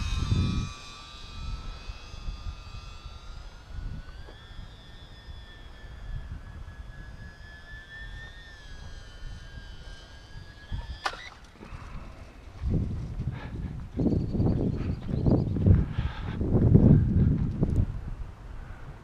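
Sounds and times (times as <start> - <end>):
model plane motor whining: 0.0 - 19.0.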